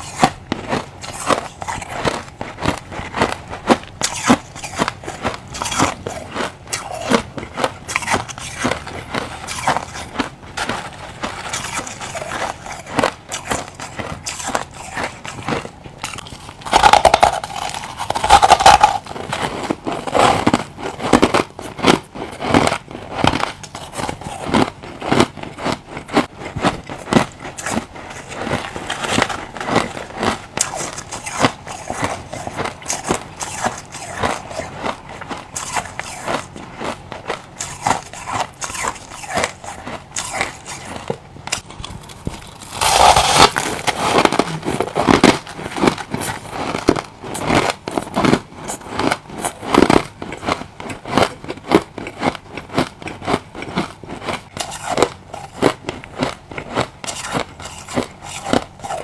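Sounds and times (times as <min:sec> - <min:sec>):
person chewing crushed ice: 0:00.0 - 0:59.0.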